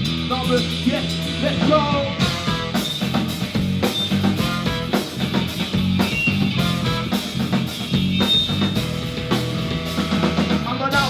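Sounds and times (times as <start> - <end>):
bass guitar: 0.0 - 11.0
drum kit beat: 0.0 - 11.0
guitar: 0.0 - 11.0.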